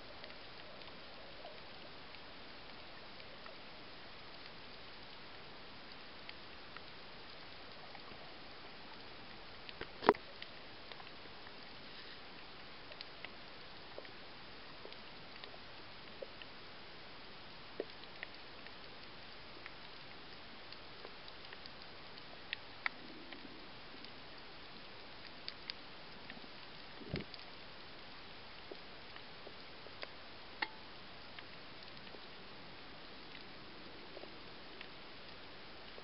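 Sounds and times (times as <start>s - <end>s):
steady underwater hiss: 0.0s - 36.0s.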